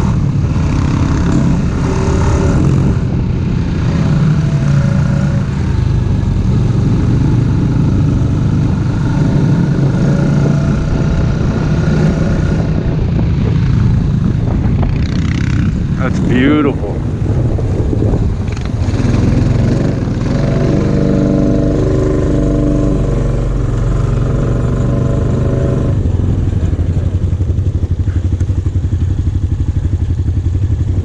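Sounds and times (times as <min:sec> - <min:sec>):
atv engine droning: 0:00.0 - 0:31.0.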